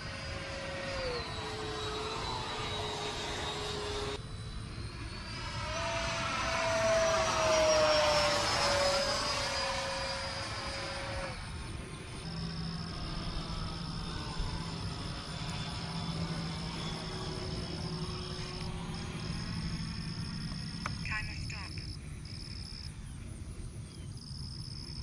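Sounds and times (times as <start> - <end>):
model jet motor whining: 0.0 - 25.0.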